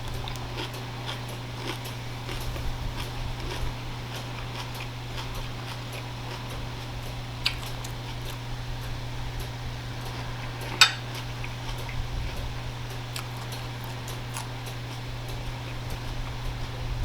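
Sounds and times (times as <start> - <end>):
person chewing: 0.0 - 16.9.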